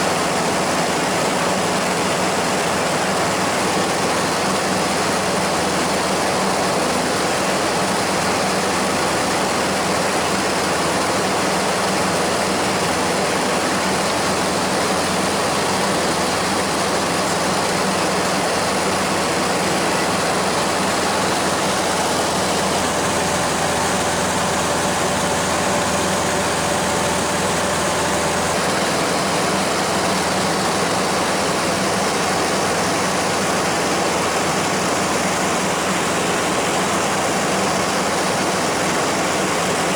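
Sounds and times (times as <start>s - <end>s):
small plane engine humming: 0.0s - 39.9s.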